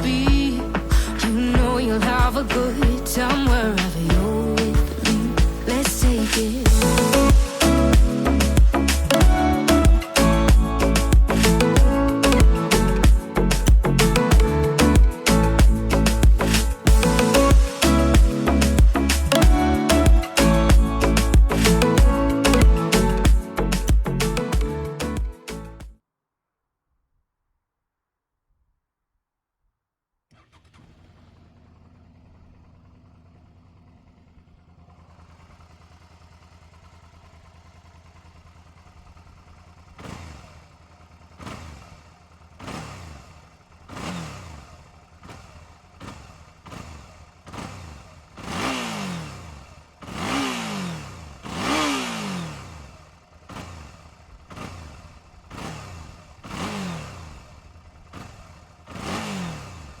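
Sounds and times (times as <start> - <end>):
motorcycle engine idling and revving: 0.0 - 26.0, 30.3 - 60.0.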